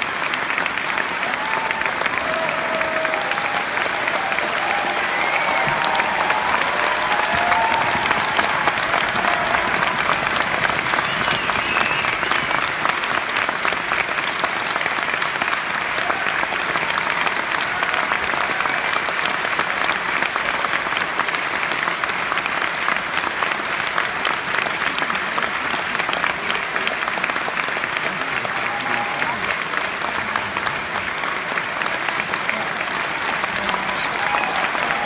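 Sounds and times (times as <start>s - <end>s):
large audience applauding: 0.0s - 35.0s.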